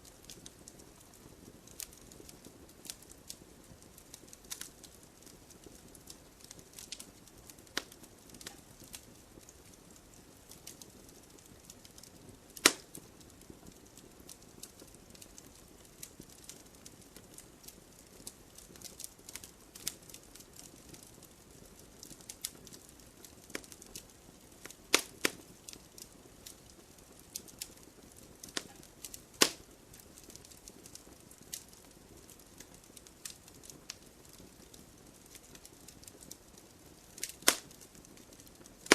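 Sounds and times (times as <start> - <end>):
sharp fire pops: 0.0 - 38.9
wood fire crackling: 0.0 - 38.9.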